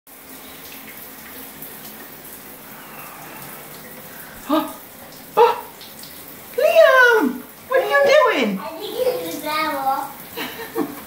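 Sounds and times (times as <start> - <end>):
shower water hissing on tiles: 0.1 - 11.0.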